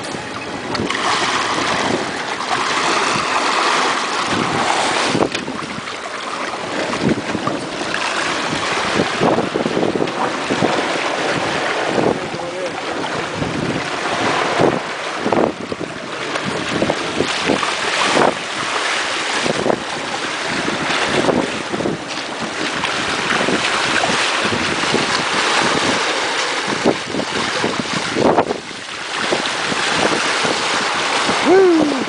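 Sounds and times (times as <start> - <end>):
water rushing past a hull: 0.0 - 32.0
wind buffeting microphone: 0.0 - 32.0.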